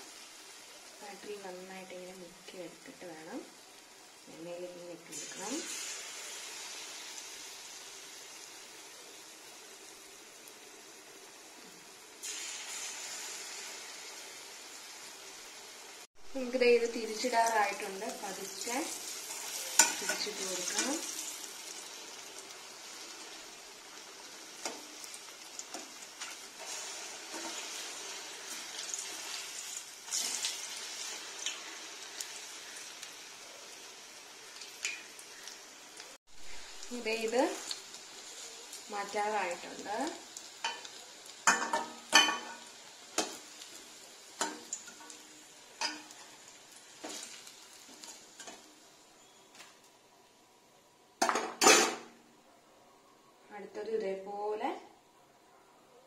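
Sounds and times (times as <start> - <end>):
food sizzling in hot oil: 0.0 - 50.0.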